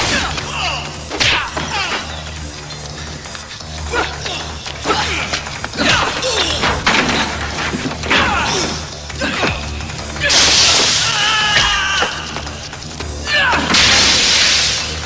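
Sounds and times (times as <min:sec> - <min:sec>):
film music score: 0:00.0 - 0:15.0.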